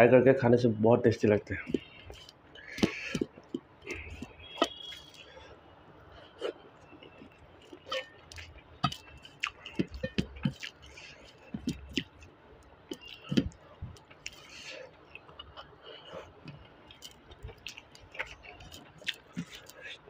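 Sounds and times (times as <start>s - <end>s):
fingers mixing food on steel plate: 1.5s - 5.4s, 6.3s - 20.0s
mouth chewing rice: 1.6s - 20.0s.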